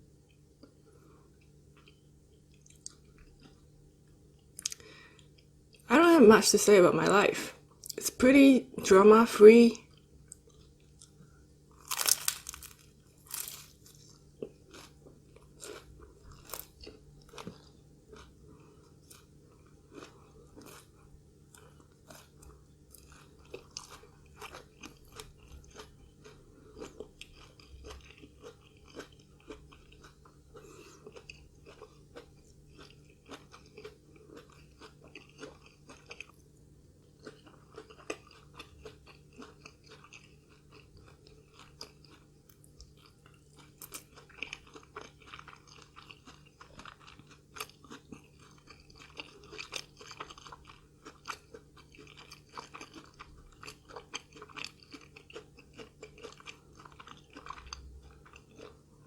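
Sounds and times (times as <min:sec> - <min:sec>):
crunching and chewing fried snack: 0:00.2 - 0:05.9, 0:09.8 - 0:59.0.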